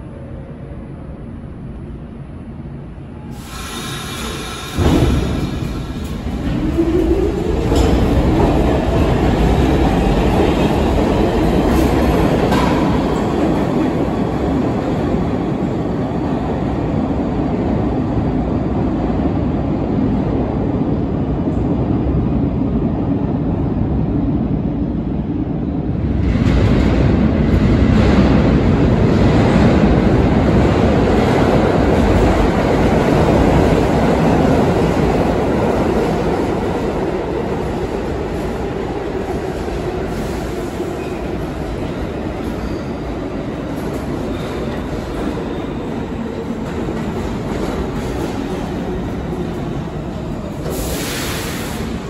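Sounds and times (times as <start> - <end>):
subway train wheels clattering: 0.0 - 52.0.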